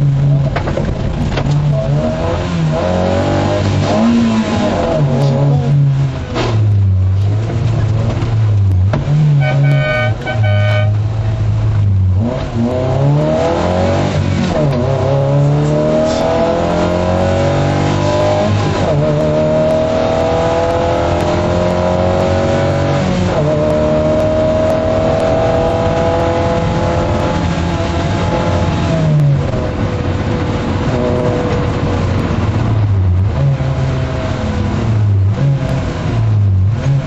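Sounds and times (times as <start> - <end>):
car engine accelerating through gears: 0.0 - 37.0.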